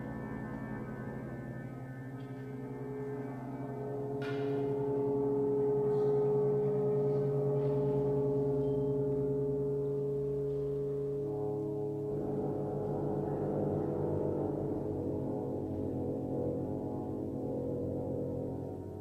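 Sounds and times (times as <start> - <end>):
brass ensemble chord: 0.0 - 19.0.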